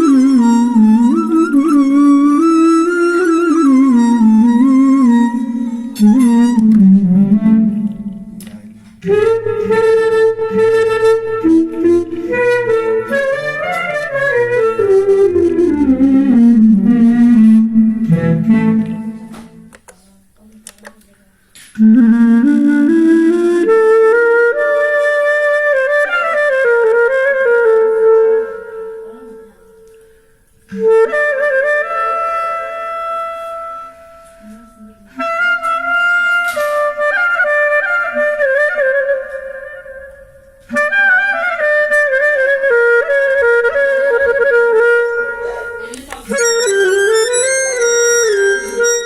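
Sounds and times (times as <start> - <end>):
clarinet-like solo melody: 0.0 - 19.6, 21.8 - 29.4, 30.7 - 49.0.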